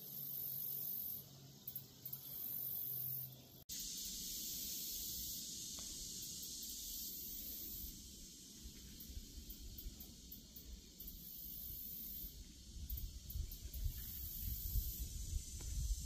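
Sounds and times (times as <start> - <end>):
faint high-pitched outdoor hiss: 0.0 - 16.0.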